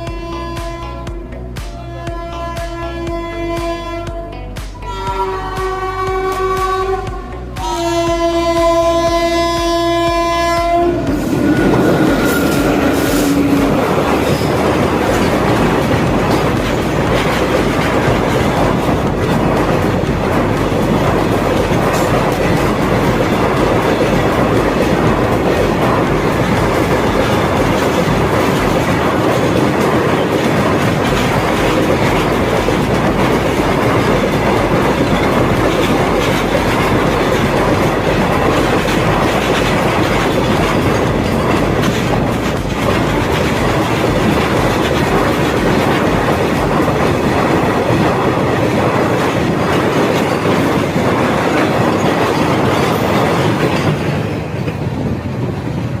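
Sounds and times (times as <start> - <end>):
train wheels rumbling and clattering: 0.0 - 56.0.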